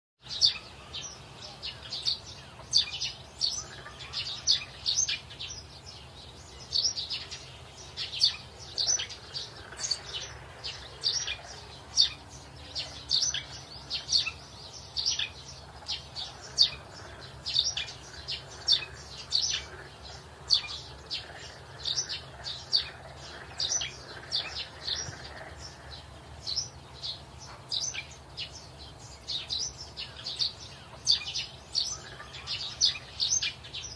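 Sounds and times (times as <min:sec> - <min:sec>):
small birds chirping: 0:00.2 - 0:33.9.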